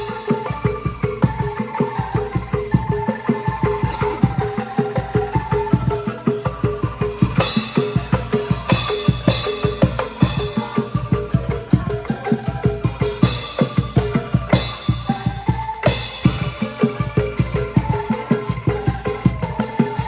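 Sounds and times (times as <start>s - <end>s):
quick drum beat: 0.0s - 20.0s.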